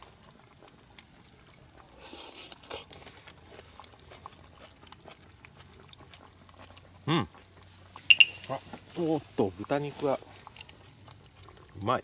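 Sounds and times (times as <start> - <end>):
broth dripping: 0.0 - 12.0.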